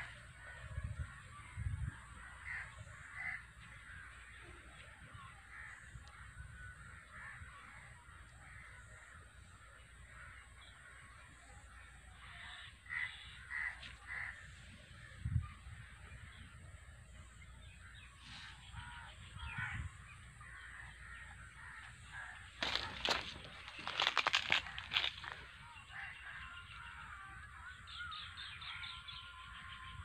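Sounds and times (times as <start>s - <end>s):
crows cawing: 0.0s - 4.8s, 5.4s - 16.4s, 17.6s - 30.0s.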